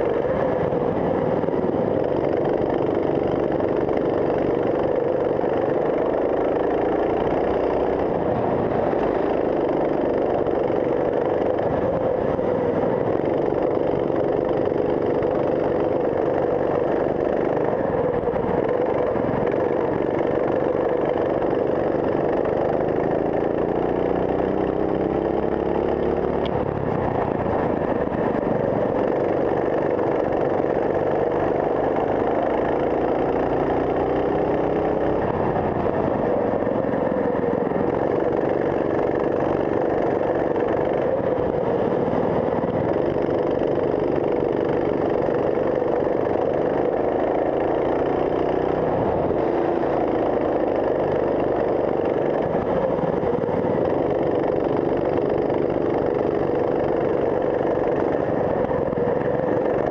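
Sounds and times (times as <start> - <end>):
racing kart engine accelerating: 0.0 - 59.9.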